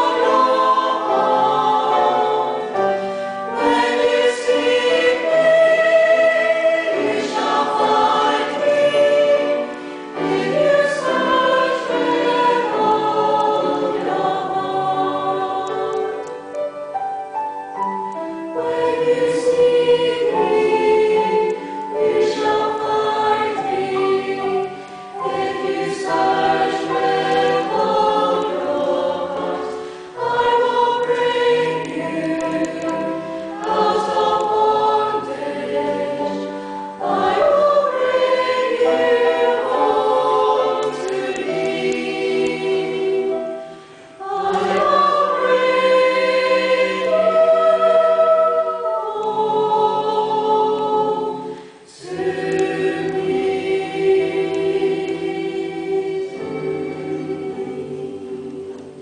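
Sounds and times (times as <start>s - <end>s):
church choir singing a hymn: 0.0s - 59.0s.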